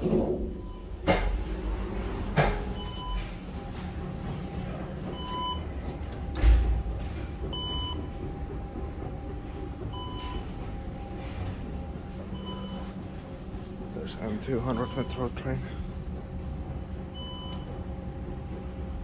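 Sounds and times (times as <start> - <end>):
metro station hum: 0.0 - 19.0.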